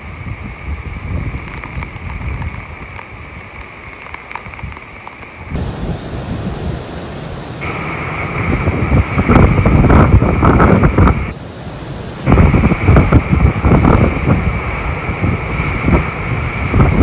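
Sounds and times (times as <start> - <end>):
wind buffeting microphone: 0.0 - 17.0
surf crashing on rocks: 1.3 - 17.0.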